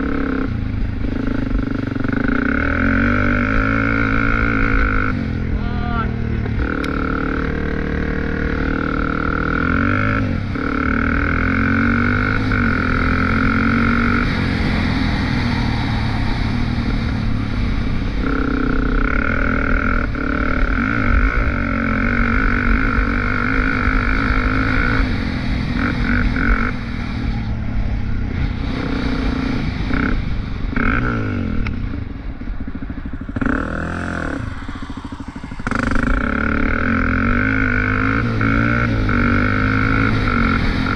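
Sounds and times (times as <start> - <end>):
high whine: 0.0 - 40.9
off-road engine revving: 0.0 - 40.9.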